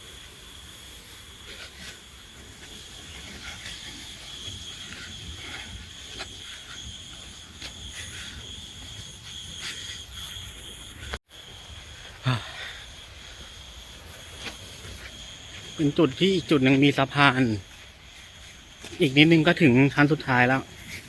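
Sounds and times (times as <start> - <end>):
insects chirping: 0.0 - 21.0
low hiss: 0.0 - 21.0.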